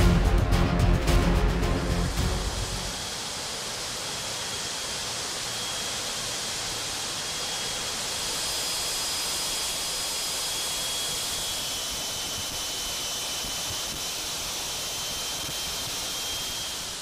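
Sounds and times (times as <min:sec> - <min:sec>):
aircraft engine noise: 0:00.0 - 0:17.0
faint high whine: 0:00.0 - 0:17.0.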